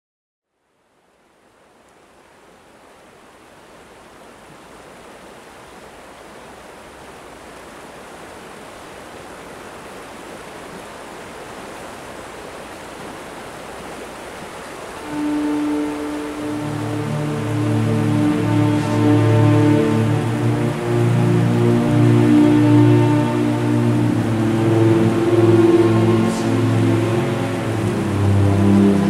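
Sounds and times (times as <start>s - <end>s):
rushing flowing water: 0.6s - 29.0s.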